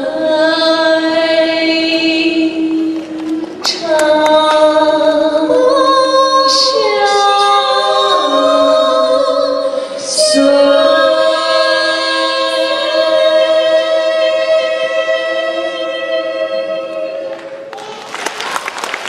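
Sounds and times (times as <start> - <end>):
women singing in harmony: 0.0 - 17.7.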